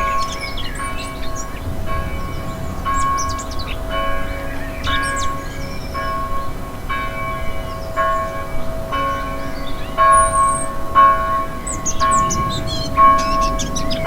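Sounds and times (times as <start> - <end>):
birds chirping and whistling: 0.0 - 6.5, 7.1 - 14.0
church bell tolling: 0.0 - 14.0.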